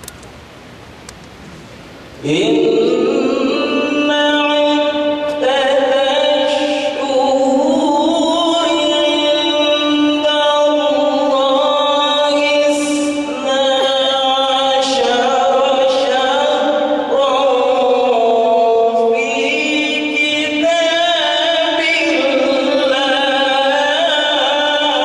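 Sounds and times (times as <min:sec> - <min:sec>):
man singing devotional chant: 0:02.2 - 0:25.0.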